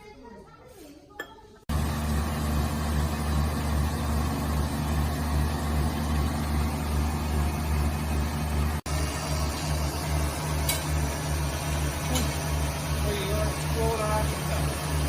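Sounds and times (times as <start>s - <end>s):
factory machinery humming: 1.7s - 15.0s.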